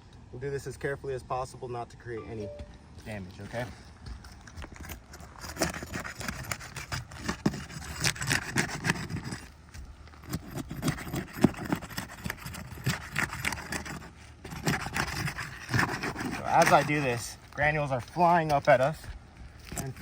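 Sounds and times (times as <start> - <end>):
roof shingles scraping and crackling: 3.4 - 20.0.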